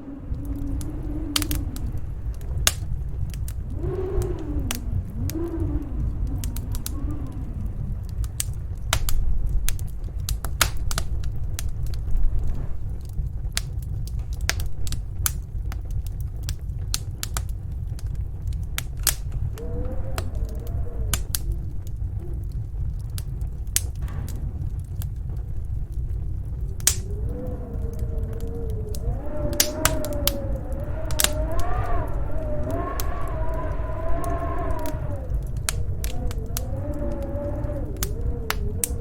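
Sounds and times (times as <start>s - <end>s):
howling snowstorm wind: 0.0s - 39.0s
wood fire crackling and popping: 0.0s - 39.0s.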